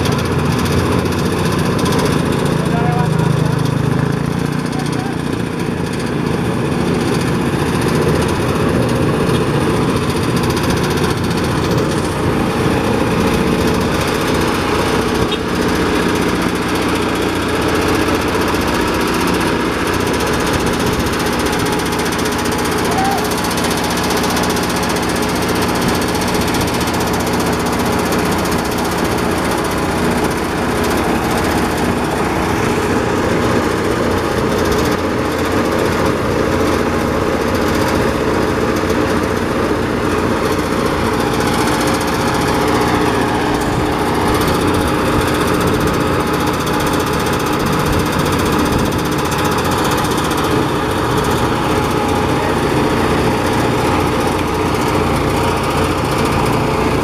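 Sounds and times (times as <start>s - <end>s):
rice thresher running: 0.0s - 57.0s.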